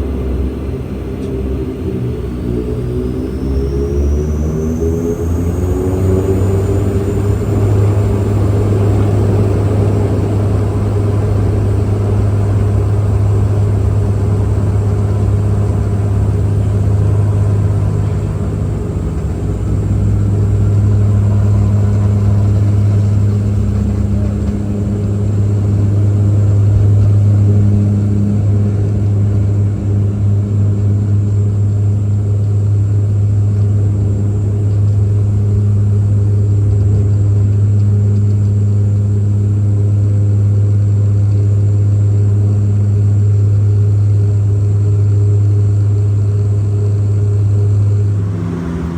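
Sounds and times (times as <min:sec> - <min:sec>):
faint high whine: 0:00.0 - 0:39.6, 0:43.1 - 0:48.9
propeller engine hum: 0:00.0 - 0:48.9.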